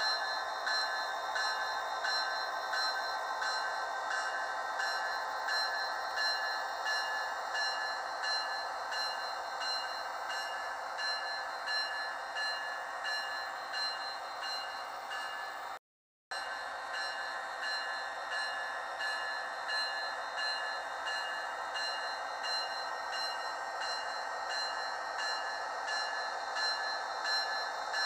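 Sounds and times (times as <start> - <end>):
crossing signal bell ringing: 0.0 - 15.6, 16.3 - 28.0
model train running: 0.0 - 15.8, 16.4 - 28.0.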